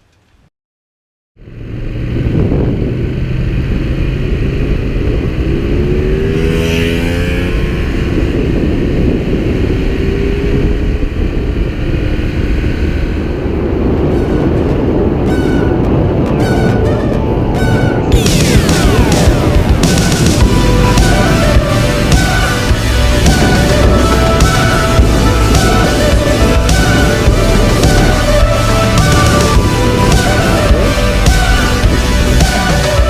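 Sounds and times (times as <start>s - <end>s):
heavy wind noise: 1.4s - 33.0s
motorcycle engine running: 1.4s - 33.0s.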